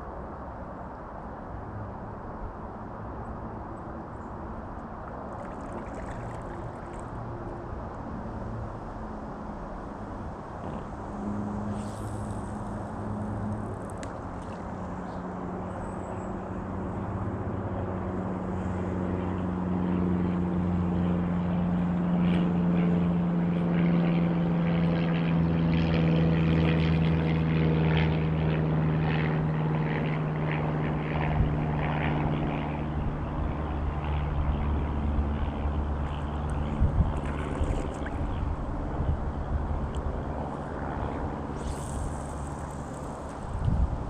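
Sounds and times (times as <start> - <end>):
engine drone passing by: 0.0 - 44.0.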